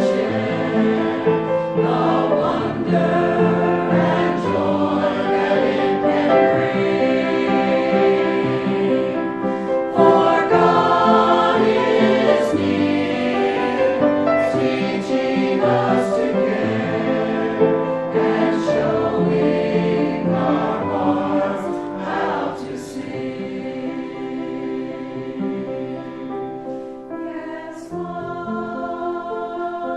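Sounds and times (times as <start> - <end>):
choir singing a hymn: 0.0 - 29.9.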